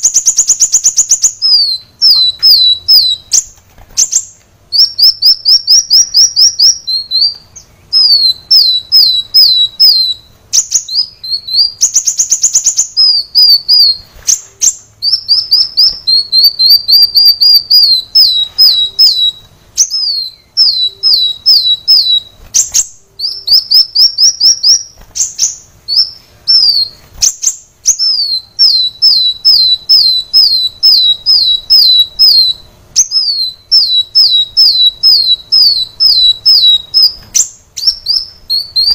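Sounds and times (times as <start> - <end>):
buzzy bird trill: 0.0 - 38.9
sunbird chirping: 0.0 - 38.9.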